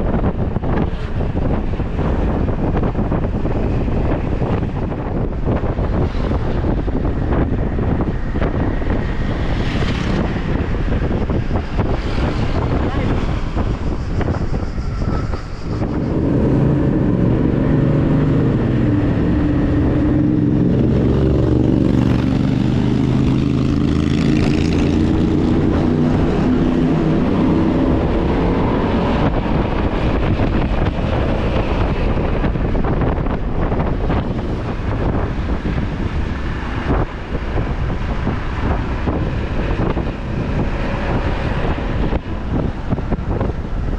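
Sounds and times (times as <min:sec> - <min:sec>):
motorcycle engine drone: 0:00.0 - 0:43.9
scooter running on road: 0:00.0 - 0:43.9
wind buffeting microphone: 0:00.0 - 0:43.9.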